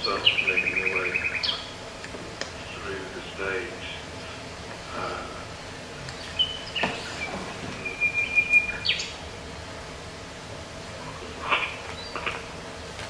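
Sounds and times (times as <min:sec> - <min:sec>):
recorded birdsong whistled chirps: 0:00.0 - 0:09.4, 0:11.0 - 0:12.9.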